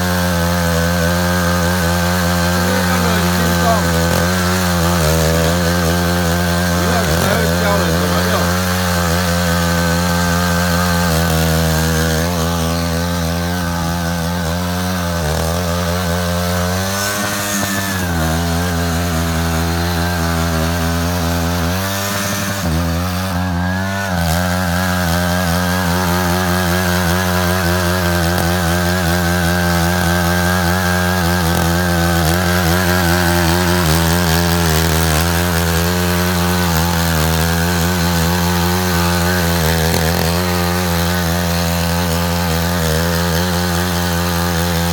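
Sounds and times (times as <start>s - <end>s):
tractor engine running under load: 0.0s - 44.9s.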